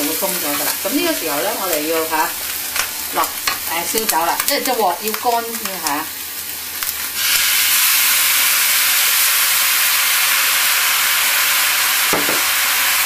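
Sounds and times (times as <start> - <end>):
wine hissing in hot wok: 0.0 - 13.0.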